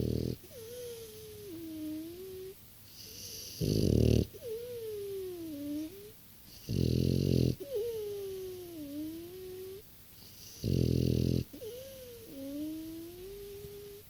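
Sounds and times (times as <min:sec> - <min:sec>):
dog snoring: 0:00.0 - 0:14.0.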